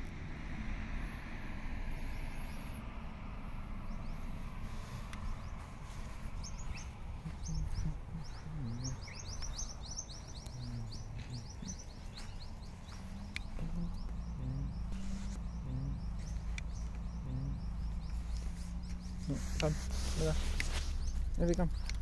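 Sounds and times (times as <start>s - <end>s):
low background rumble: 0.0s - 22.0s
small birds chirping: 3.6s - 22.0s.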